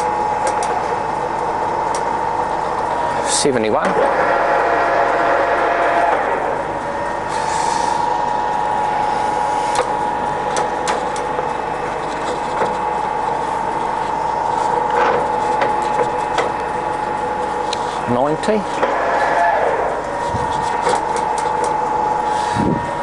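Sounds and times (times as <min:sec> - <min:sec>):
lathe running: 0:00.0 - 0:23.0.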